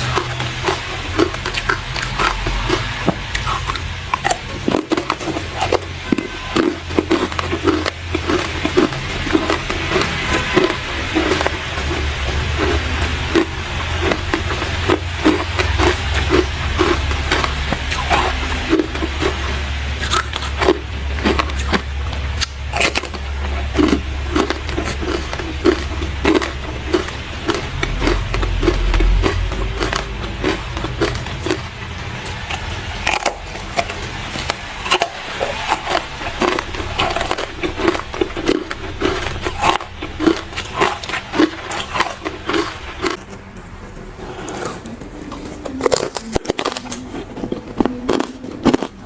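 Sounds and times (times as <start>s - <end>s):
ice being chewed: 0.0s - 49.0s.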